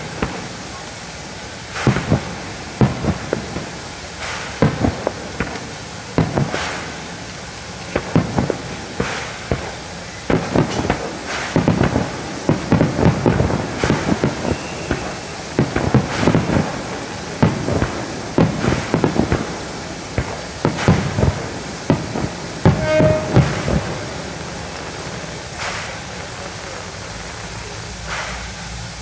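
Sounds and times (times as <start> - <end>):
fireworks booming and crackling: 0.0 - 29.0.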